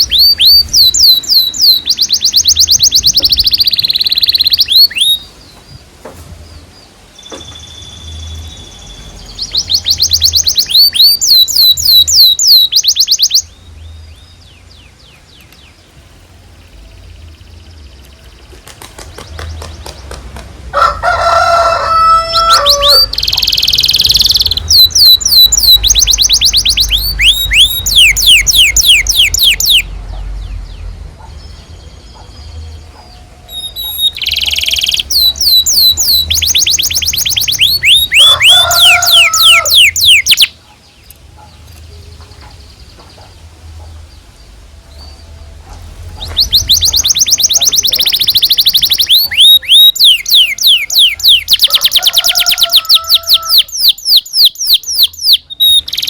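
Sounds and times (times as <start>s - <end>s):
canary singing: 0.0s - 5.9s, 6.5s - 19.9s, 20.8s - 56.0s.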